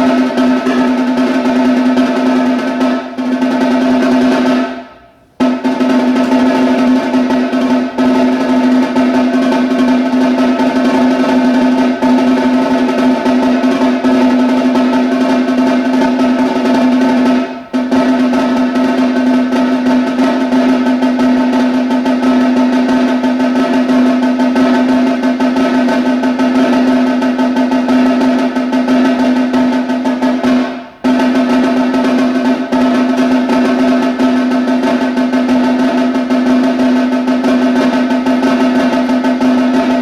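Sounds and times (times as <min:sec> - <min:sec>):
snare drum roll: 0:00.0 - 0:40.0.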